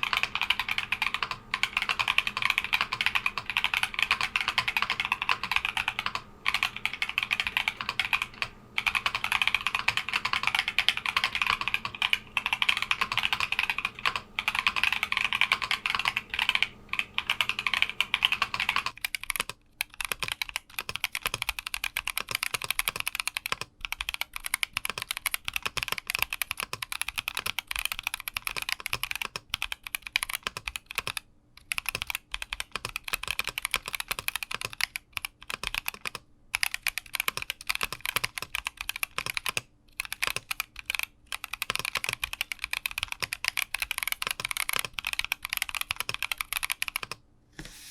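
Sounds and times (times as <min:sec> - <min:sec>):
mechanical keyboard typing: 0:00.0 - 0:47.2.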